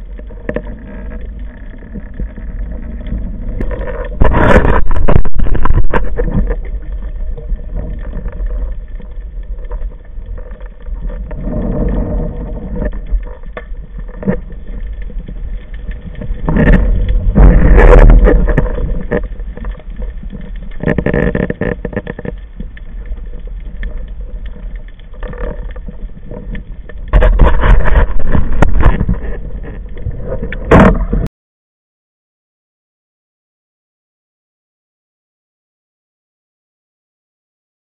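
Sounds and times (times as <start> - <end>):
muffled underwater water noise: 0.0 - 31.3.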